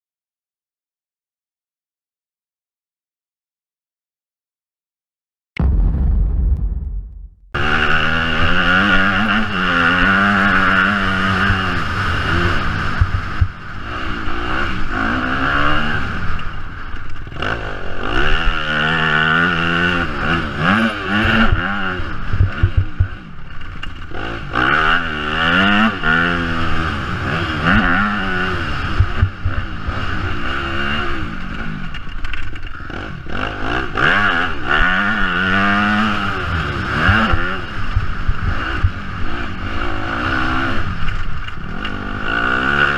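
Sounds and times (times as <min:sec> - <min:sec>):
motocross bike engine revving: 0:07.6 - 0:42.9.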